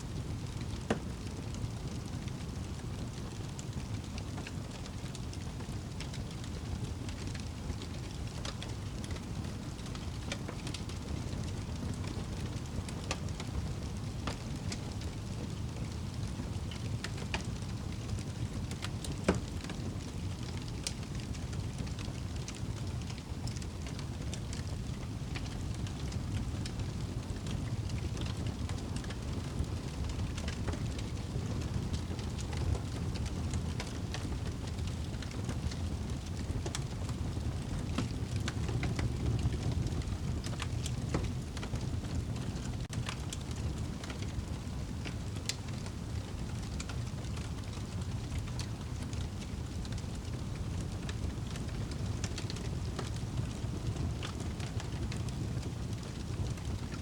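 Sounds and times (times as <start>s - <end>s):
fire crackles and pops: 0.1s - 57.0s
fire flames rumbling: 0.1s - 57.0s.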